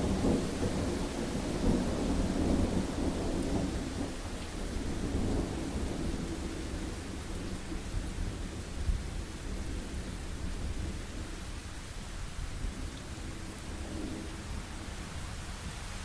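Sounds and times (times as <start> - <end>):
low rolling thunder rumble: 0.0 - 11.5, 12.5 - 15.4
heavy rain: 0.0 - 16.0.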